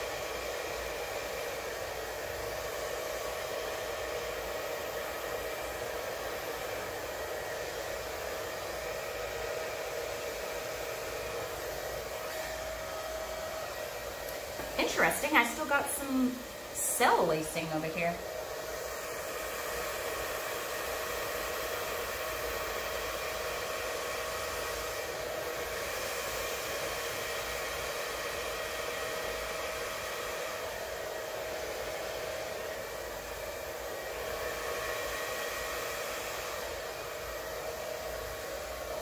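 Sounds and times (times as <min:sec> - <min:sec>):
electric blower whining: 0:00.0 - 0:39.0.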